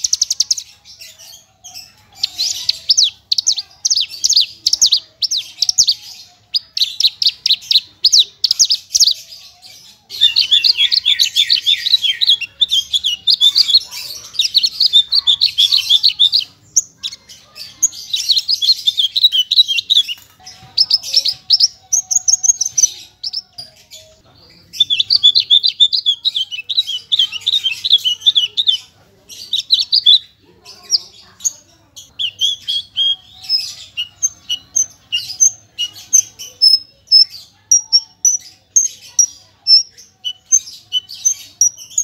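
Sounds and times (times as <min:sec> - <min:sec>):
lark singing: 0:00.0 - 0:42.0.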